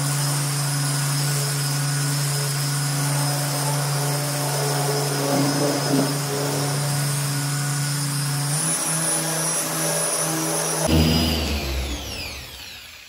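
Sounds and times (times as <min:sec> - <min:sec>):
motor winding down whine: 0:00.0 - 0:13.0
orbital polisher running: 0:00.0 - 0:13.0.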